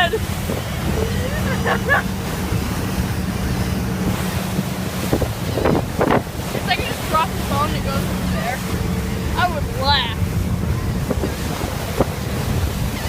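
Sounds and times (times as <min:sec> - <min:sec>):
churning wake: 0:00.0 - 0:13.0
ferry engine drone: 0:00.0 - 0:13.0
wind on microphone: 0:00.0 - 0:13.0.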